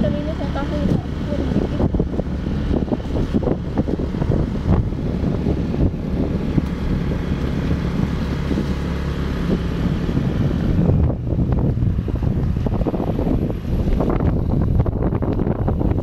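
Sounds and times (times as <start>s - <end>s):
vehicle engine and road noise: 0.0s - 16.0s
wind buffeting microphone: 0.0s - 16.0s.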